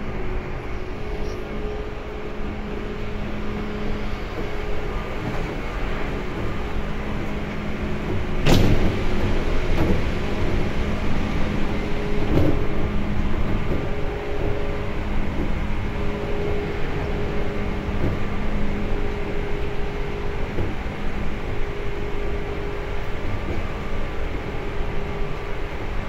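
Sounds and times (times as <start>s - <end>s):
train carriage rumble: 0.0s - 26.0s.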